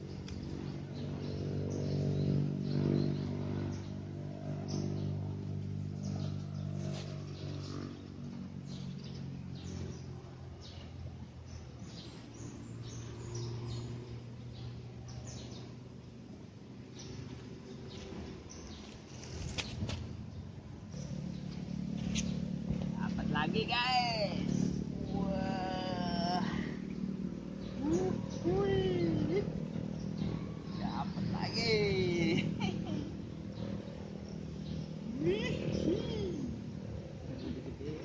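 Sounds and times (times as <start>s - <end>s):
engine hum: 0.0s - 38.0s
small birds chirping: 0.0s - 38.0s.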